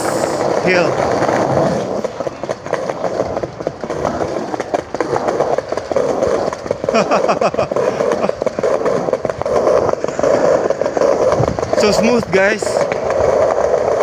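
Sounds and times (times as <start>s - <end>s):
skateboard wheels rolling rumble: 0.0s - 14.0s
wheels clicking over slab joints: 0.0s - 14.0s.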